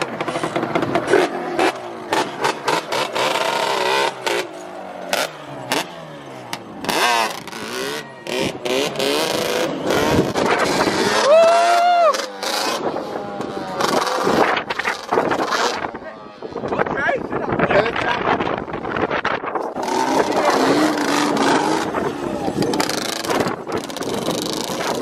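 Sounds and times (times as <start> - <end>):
atv engine revving: 0.0 - 16.9, 17.6 - 25.0.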